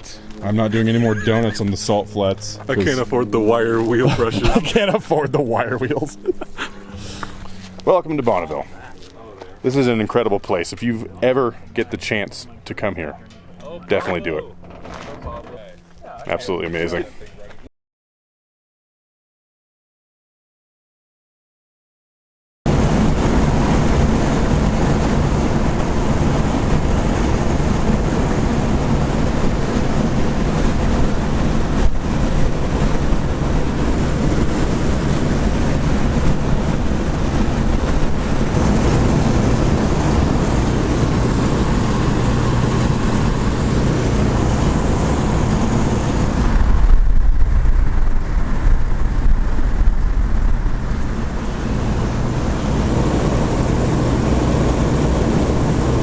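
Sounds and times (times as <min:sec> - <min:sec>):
car engine drone: 0:00.0 - 0:17.5, 0:22.7 - 0:56.0
deep engine rumble: 0:00.0 - 0:17.7, 0:22.7 - 0:56.0
wind and road noise: 0:00.0 - 0:17.7, 0:22.7 - 0:56.0.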